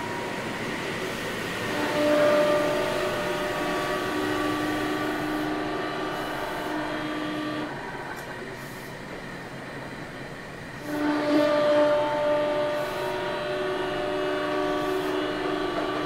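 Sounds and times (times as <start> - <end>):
train motor whine: 0.0 - 16.0
train rolling noise: 0.0 - 16.0.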